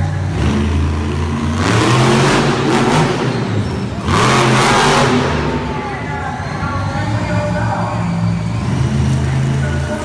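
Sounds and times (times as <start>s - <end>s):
truck engine revving hard: 0.0s - 10.0s.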